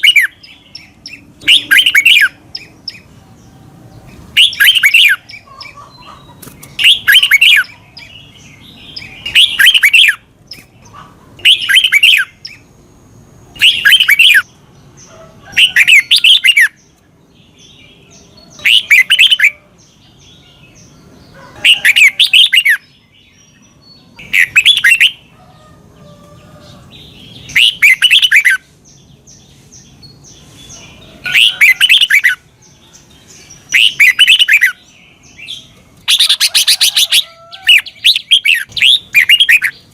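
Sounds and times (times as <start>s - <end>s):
bird singing warbling phrases: 0.0s - 39.9s.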